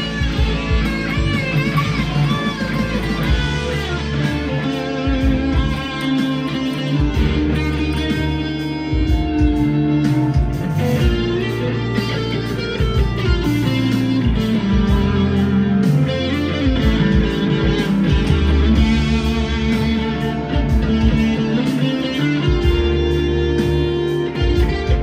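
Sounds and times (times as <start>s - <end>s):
distorted electric guitar lead: 0.0s - 25.0s.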